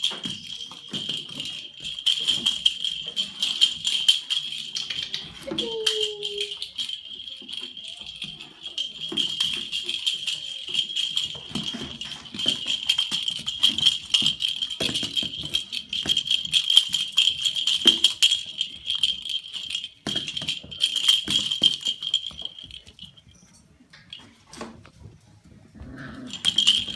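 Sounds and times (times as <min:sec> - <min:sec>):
high jingling rattle: 0:00.0 - 0:24.4, 0:26.2 - 0:26.9.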